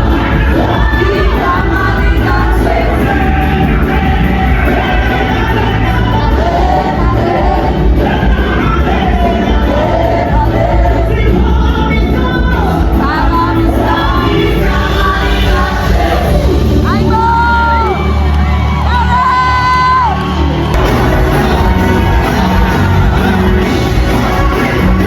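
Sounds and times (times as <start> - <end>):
choir singing: 0.0 - 17.0, 20.7 - 25.0
steady bass: 0.0 - 25.0.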